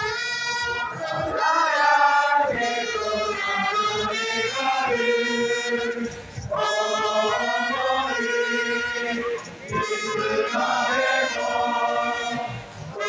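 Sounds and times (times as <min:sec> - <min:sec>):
crowd singing in unison: 0:00.0 - 0:13.0
trumpets playing: 0:00.0 - 0:13.0.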